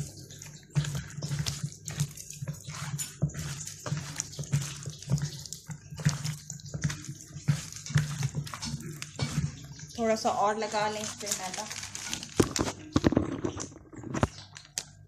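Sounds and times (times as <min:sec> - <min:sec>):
hands squelching wet marinade: 0:00.0 - 0:13.0.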